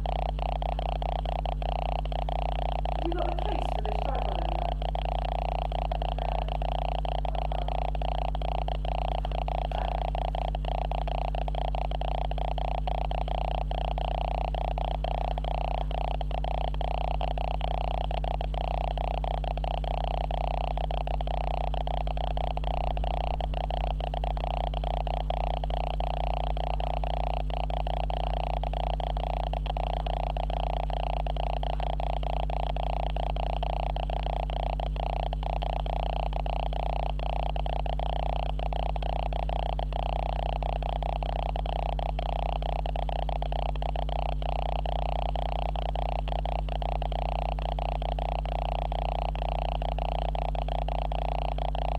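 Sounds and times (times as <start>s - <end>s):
electronic buzz and hum: 0.0s - 51.9s.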